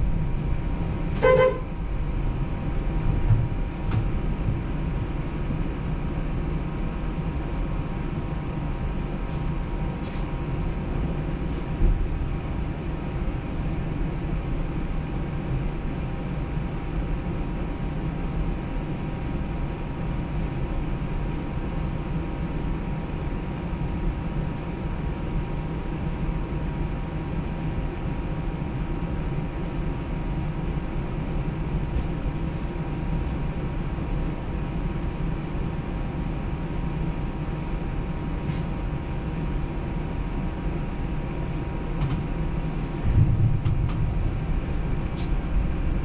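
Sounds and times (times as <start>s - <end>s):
streetcar wheels rumbling on rails: 0.0s - 46.0s.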